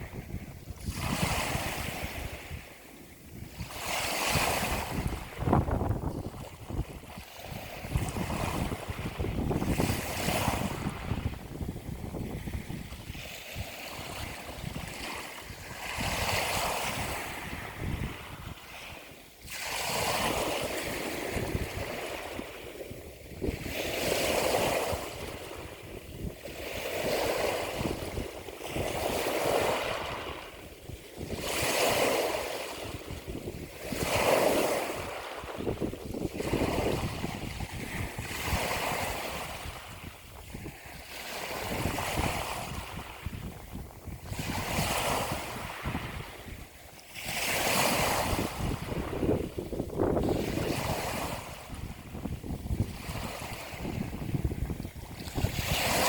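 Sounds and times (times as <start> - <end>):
ocean waves washing in: 0.0 - 56.0
wind rumbling on microphone: 0.0 - 56.0.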